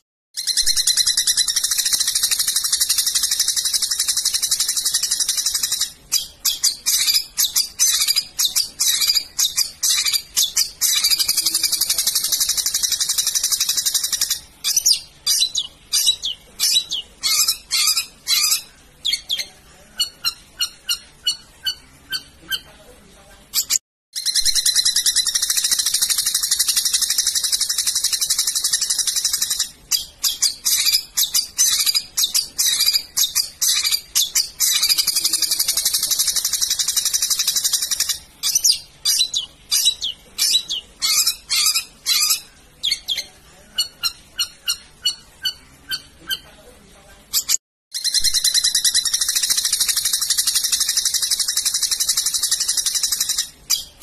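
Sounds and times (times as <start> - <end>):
bird harsh chattering trills: 0.4 - 22.7, 23.6 - 46.4, 47.4 - 54.0.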